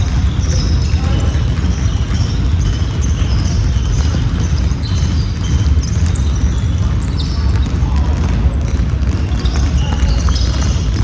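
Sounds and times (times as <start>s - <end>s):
basketball bouncing on court: 0.0s - 11.0s
sneaker squeaks: 0.0s - 11.0s.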